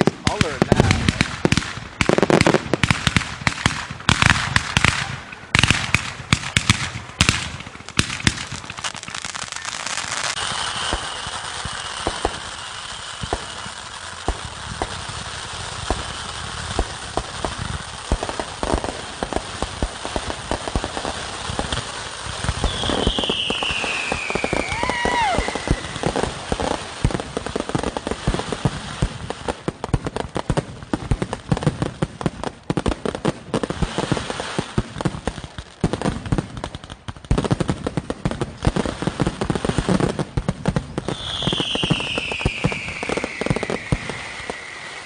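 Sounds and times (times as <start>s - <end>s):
fireworks bursting: 0.0s - 45.0s
fireworks crackling and popping: 0.0s - 45.0s.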